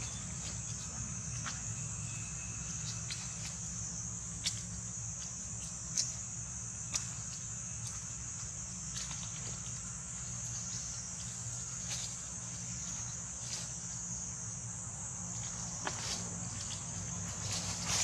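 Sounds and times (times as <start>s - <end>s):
insect chorus drone: 0.0s - 18.0s
rustles of dry leaf litter: 0.0s - 18.0s.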